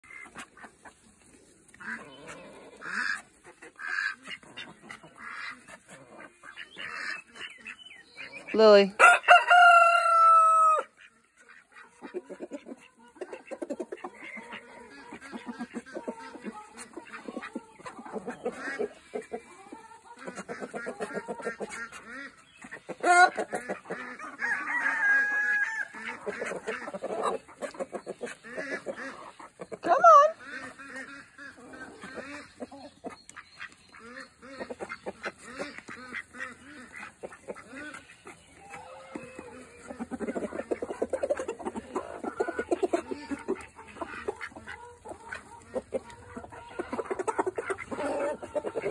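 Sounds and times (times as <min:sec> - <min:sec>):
bills dabbling and pecking: 0:00.0 - 0:08.6, 0:10.9 - 0:48.9
chickens clucking: 0:00.0 - 0:48.9
ducks quacking: 0:00.0 - 0:48.9.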